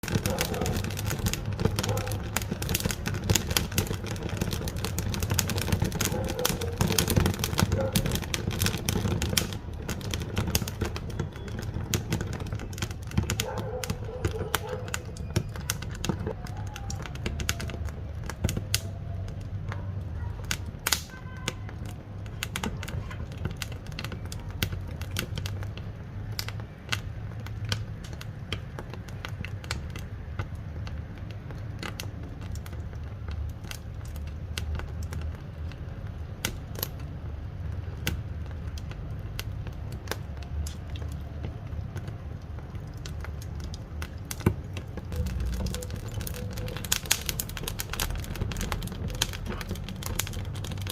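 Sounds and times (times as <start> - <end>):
firewood crackling and popping: 0.0 - 50.9
low rumble of fire: 0.0 - 50.9.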